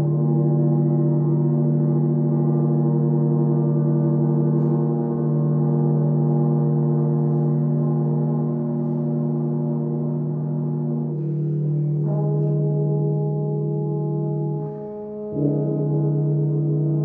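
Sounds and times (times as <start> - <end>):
french horn and tuba chord: 0.0 - 17.0.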